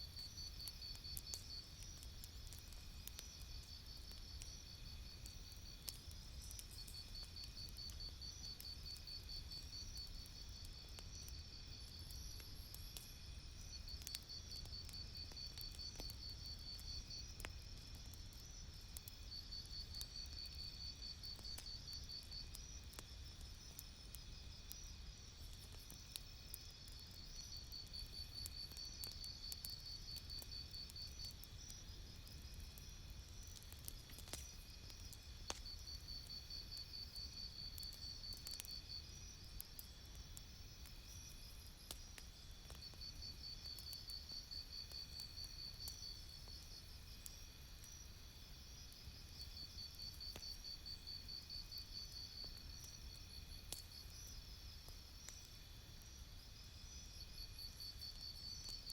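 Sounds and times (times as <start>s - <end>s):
campfire crackling and popping: 0.0s - 58.9s.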